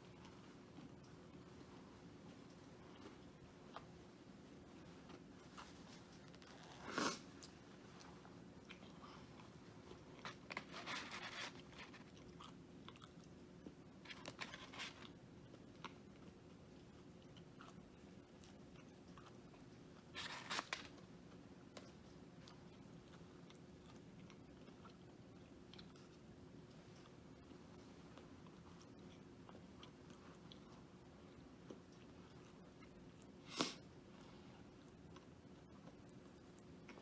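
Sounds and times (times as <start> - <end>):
crunching and chewing food: 0.0 - 37.0.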